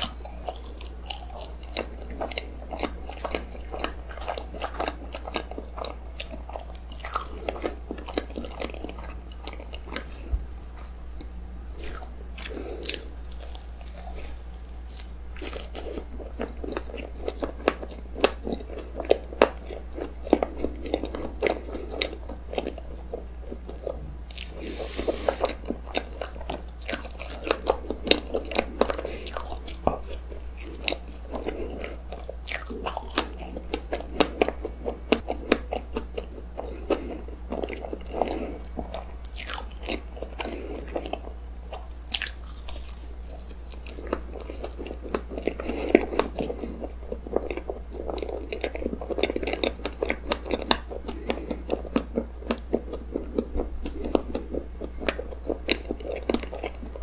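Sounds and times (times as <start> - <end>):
person chewing: 0.0 - 57.0
steady low hum: 0.0 - 57.0.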